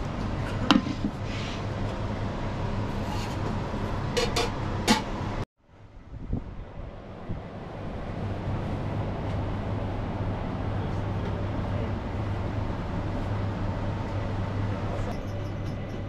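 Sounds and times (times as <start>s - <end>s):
exhaust fan running: 0.0s - 16.0s.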